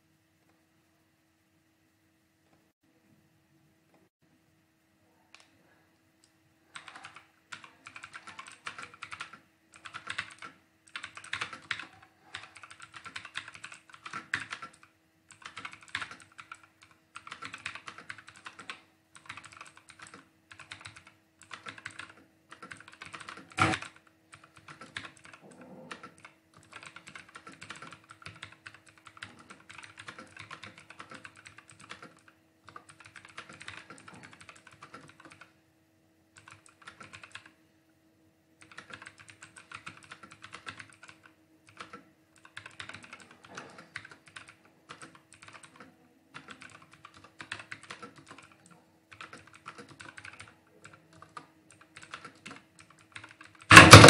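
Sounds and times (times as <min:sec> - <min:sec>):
computer keyboard typing: 0:06.7 - 0:35.5, 0:36.4 - 0:37.6, 0:38.6 - 0:54.0.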